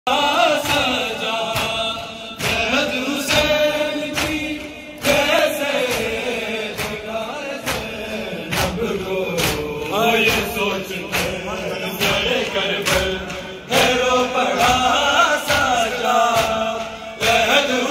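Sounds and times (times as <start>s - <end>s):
men beating their chests: 0.1s - 17.9s.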